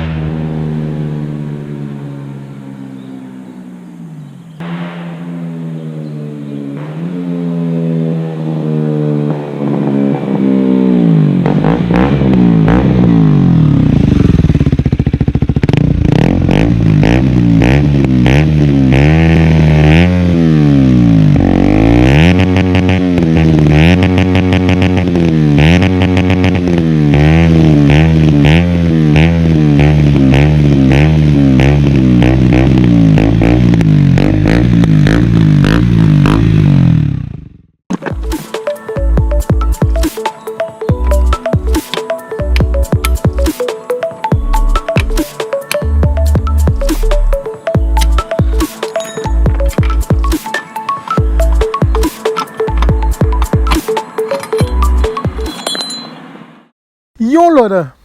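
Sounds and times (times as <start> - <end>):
motorcycle engine revving: 0.0 - 40.2, 40.9 - 50.5.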